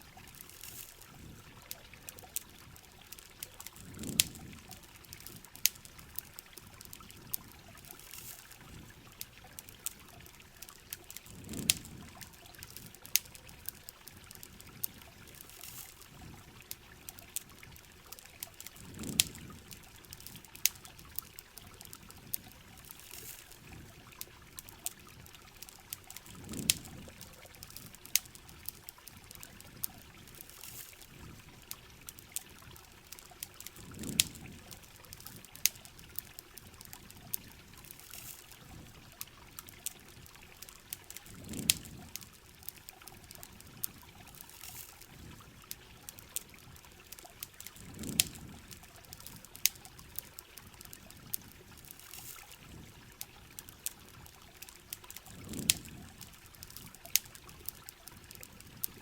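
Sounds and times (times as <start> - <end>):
campfire crackling and popping: 0.0 - 59.0
steady rain hiss: 0.0 - 59.0.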